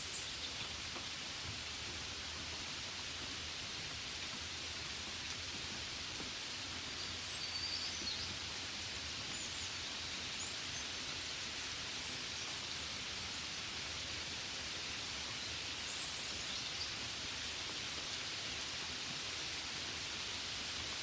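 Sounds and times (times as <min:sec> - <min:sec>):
gentle rain hiss: 0:00.0 - 0:21.0.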